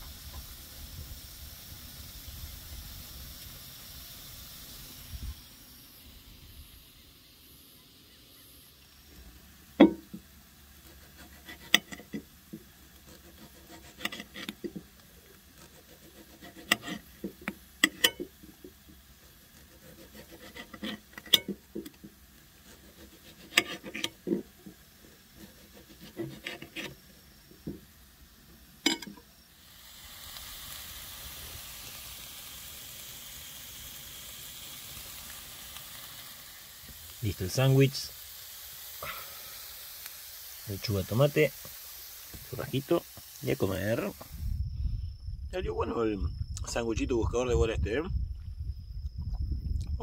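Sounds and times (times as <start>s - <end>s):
food sizzling on a griddle: 0.0s - 44.8s.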